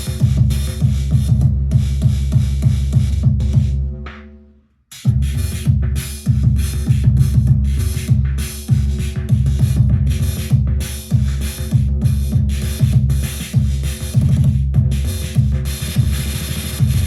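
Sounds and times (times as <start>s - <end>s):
drum machine electronic beat: 0.0s - 4.3s, 4.9s - 17.0s.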